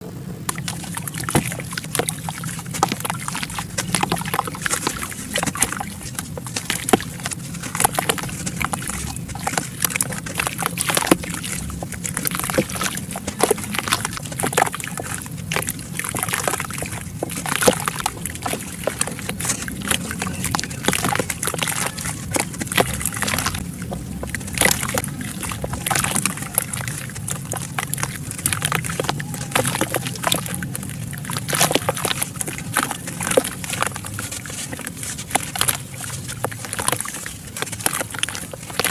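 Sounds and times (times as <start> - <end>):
wet sloshing: 0.0 - 38.9
dirt crumbling with crackles: 0.5 - 38.9.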